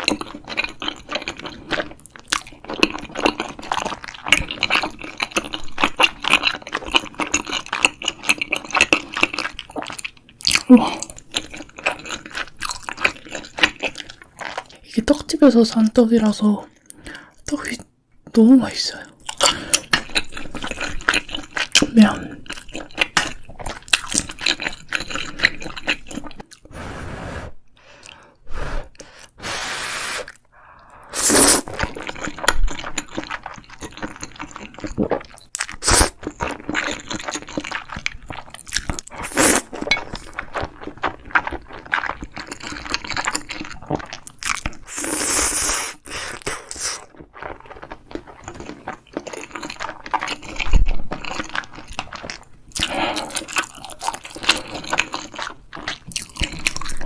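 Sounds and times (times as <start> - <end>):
close-miked wet chewing: 0.0 - 15.4, 19.2 - 26.7, 30.2 - 57.0.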